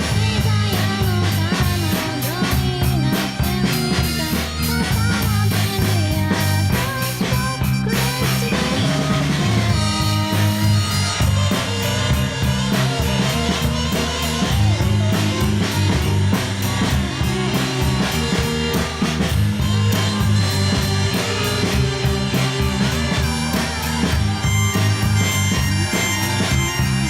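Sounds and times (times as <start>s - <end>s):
bass line: 0.0s - 27.0s
rock band playing: 0.0s - 27.0s
steady drumbeat: 0.0s - 27.0s.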